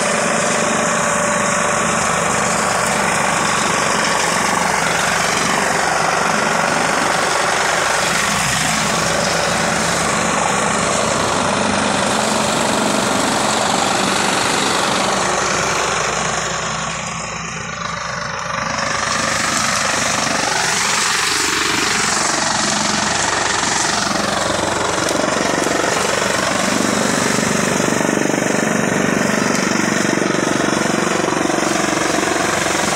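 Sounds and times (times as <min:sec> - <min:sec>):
chaff cutter chopping straw: 0:00.0 - 0:16.4, 0:18.8 - 0:32.9.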